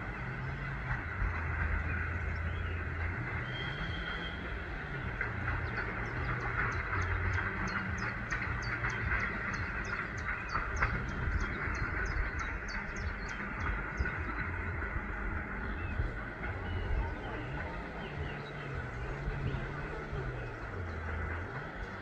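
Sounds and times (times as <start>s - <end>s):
bird chirping: 0.0s - 22.0s
electric train rumbling: 0.0s - 22.0s.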